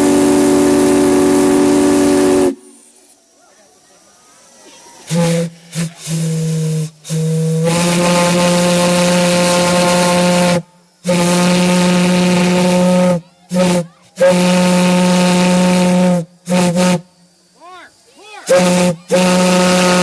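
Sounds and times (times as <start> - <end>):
steam whistle blasts: 0.0 - 3.0, 5.0 - 17.4, 18.5 - 20.0
steam hissing: 0.0 - 20.0.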